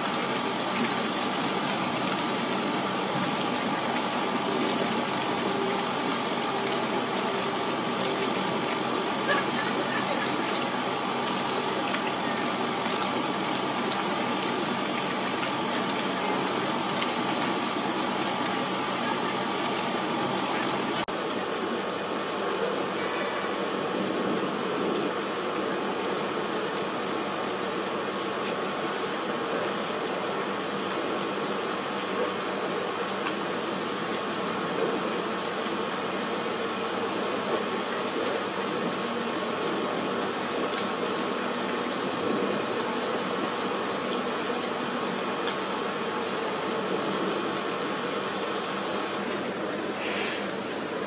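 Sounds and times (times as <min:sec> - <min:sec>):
steady noise with faint hum: 0:00.0 - 0:51.0.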